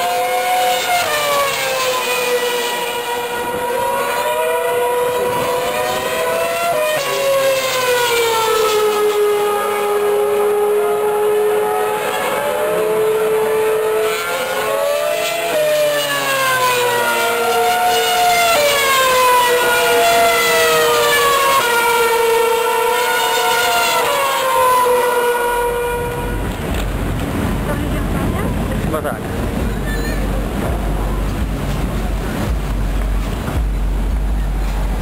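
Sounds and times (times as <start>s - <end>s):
gear changes: 0.0s - 35.0s
racing car engines whining: 0.0s - 35.0s.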